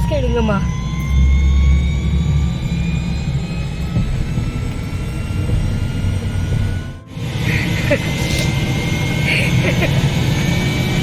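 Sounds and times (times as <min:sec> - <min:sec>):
helicopter turbine whine: 0:00.0 - 0:11.0.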